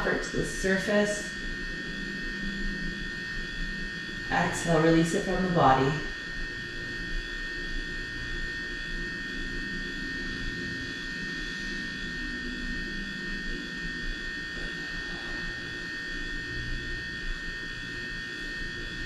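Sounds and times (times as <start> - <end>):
faint high whine: 0.0 - 19.0
machine hum and hiss: 0.0 - 19.0.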